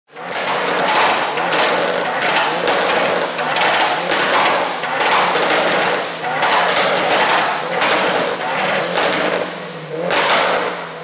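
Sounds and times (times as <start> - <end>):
exhausts crackling and popping: 0.1 - 11.0
turbocharged engines revving: 0.1 - 11.0.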